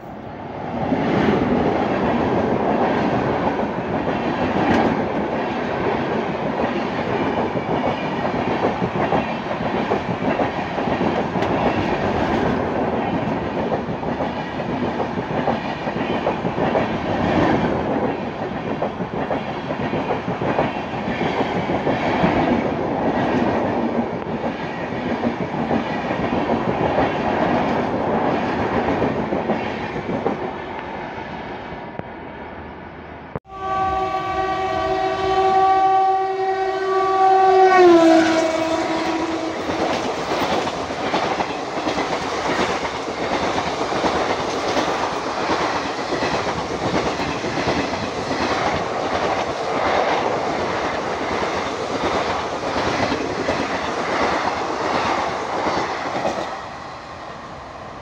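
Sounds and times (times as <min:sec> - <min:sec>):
train wheels clacking on rails: 0:00.9 - 0:30.5, 0:37.8 - 0:56.8.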